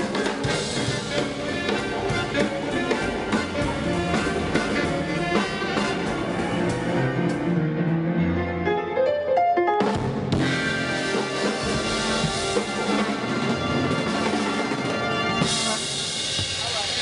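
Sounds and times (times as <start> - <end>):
swing big band playing: 0.0 - 17.0.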